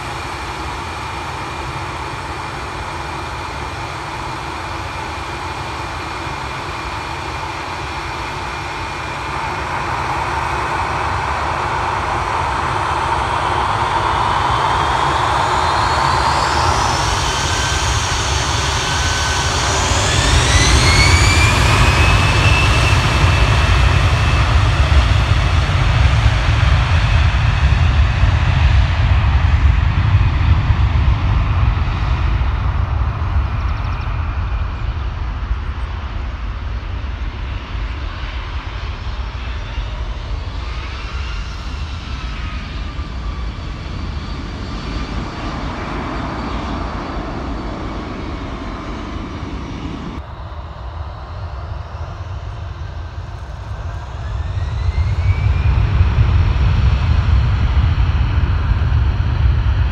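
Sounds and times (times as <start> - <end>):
jet engine whine spooling up: 0.0 - 59.9
jet engines rumbling: 0.0 - 59.9.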